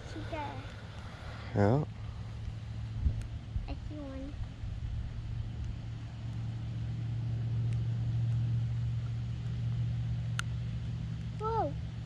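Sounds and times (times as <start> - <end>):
passing vehicle engine hum: 0.0 - 12.0.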